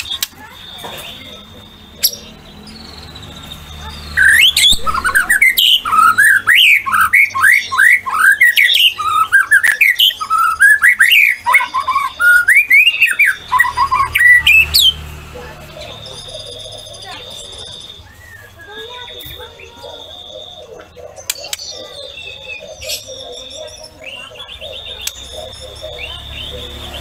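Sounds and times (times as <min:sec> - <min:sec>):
bird singing whistled notes: 0:00.0 - 0:27.0.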